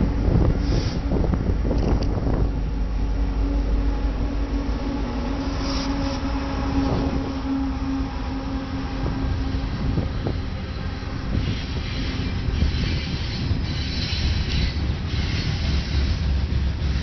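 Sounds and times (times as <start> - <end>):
diesel locomotive engine hum: 0.0 - 17.0
train wheels rumbling on rails: 0.0 - 17.0.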